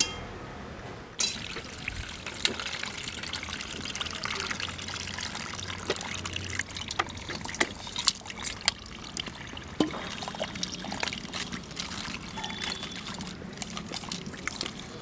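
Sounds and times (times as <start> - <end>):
liquid pouring through colander: 1.2 - 15.0.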